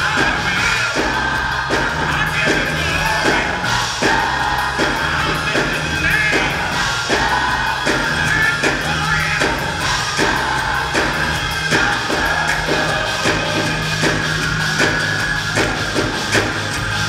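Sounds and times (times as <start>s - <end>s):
drums keeping a beat: 0.0s - 17.0s
gospel choir singing: 0.0s - 17.0s
low bass line: 0.0s - 17.0s.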